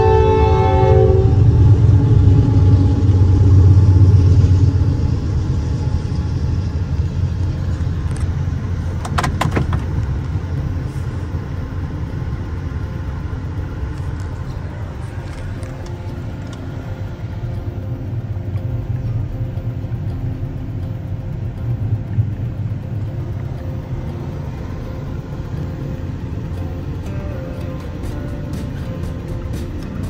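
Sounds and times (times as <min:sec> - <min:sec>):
diesel locomotive engine rumble: 0:00.0 - 0:30.0
hopper cars rolling: 0:00.0 - 0:30.0.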